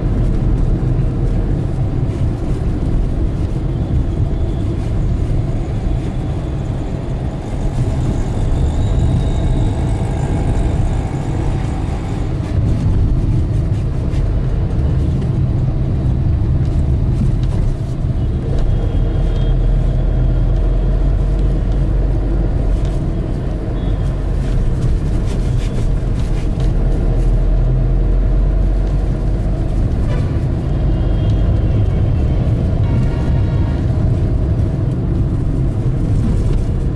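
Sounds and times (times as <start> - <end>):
traffic rumble: 0.0 - 36.9.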